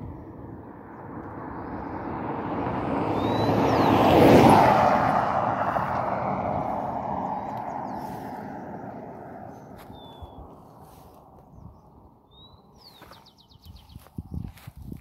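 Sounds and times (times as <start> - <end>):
vehicle passing on road: 0.0 - 14.7.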